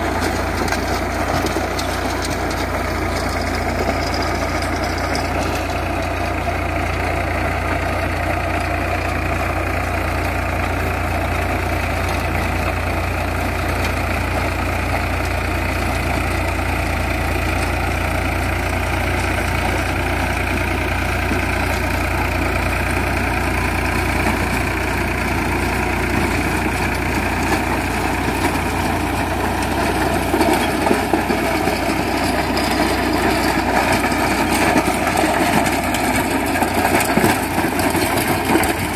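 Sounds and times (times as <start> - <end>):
tiller blades churning soil: 0.0 - 38.9
tractor diesel engine under load: 0.0 - 38.9.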